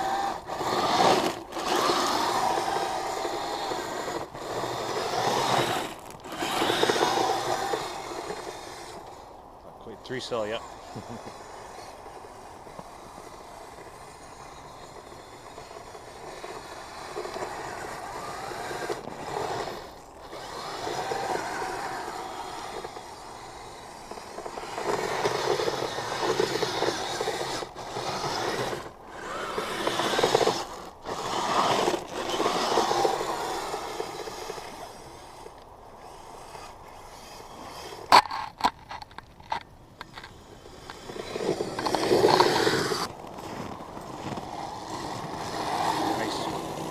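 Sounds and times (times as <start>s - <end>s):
electric motors whirring: 0.0s - 46.9s.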